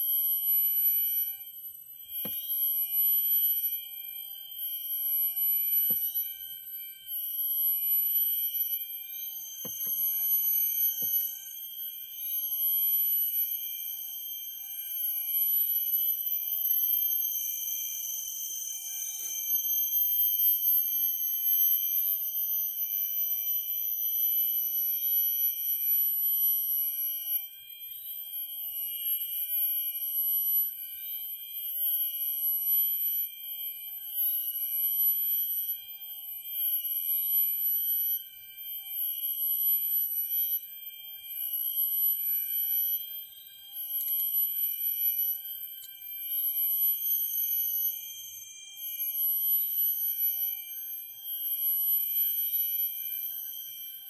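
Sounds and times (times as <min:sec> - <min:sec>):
insect drones: 0:02.2 - 0:28.4, 0:29.0 - 0:54.0.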